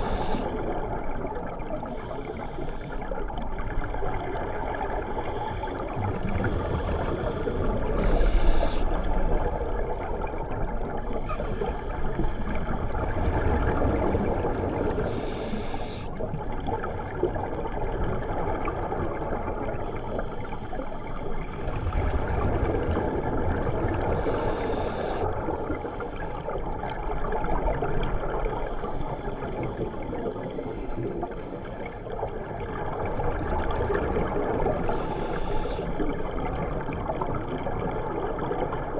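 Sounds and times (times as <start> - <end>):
muffled underwater noise: 3.7 - 16.2, 19.2 - 38.9.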